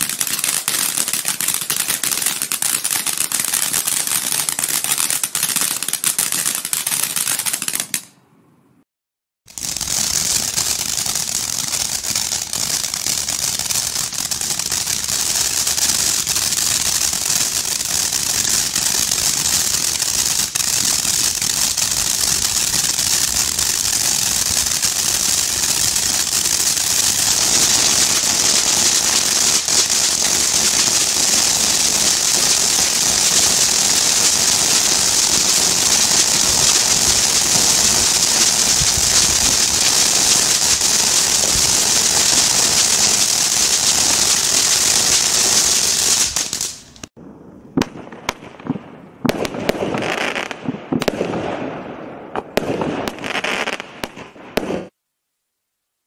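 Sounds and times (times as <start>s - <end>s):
fireworks fountain hissing: 0.0s - 8.1s, 9.5s - 47.1s.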